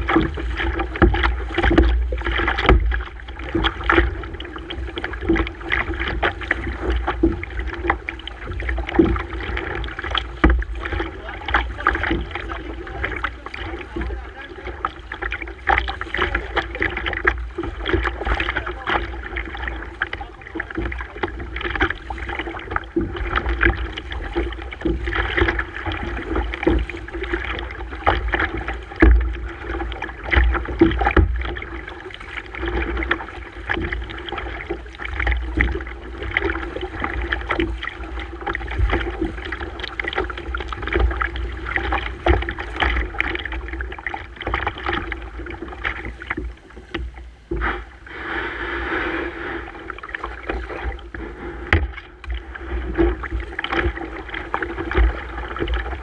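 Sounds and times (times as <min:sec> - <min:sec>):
water splashing against kayak: 0:00.0 - 0:56.0.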